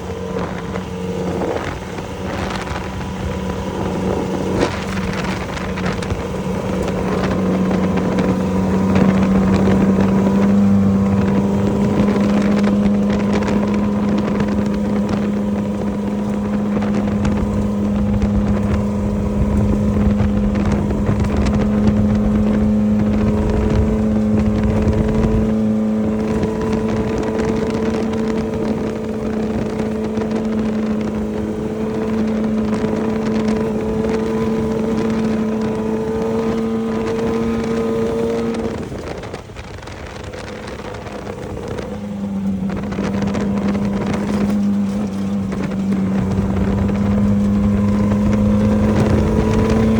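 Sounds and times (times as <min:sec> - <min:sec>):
low rumble: 0:00.0 - 0:49.9
race vehicle engine running: 0:00.0 - 0:49.9
wind noise on microphone: 0:00.0 - 0:49.9.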